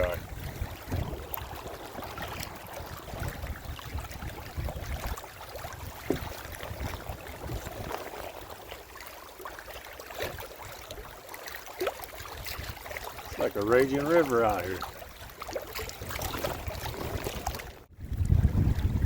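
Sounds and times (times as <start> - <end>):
wind rumble on microphone: 0.0 - 9.1, 12.2 - 19.0
small knocks or splashes: 0.0 - 19.0
water lapping against kayak hull: 0.0 - 19.0.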